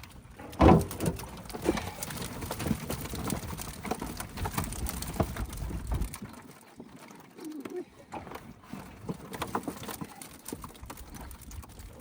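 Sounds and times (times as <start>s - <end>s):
fish flopping in a boat: 0.0s - 12.0s.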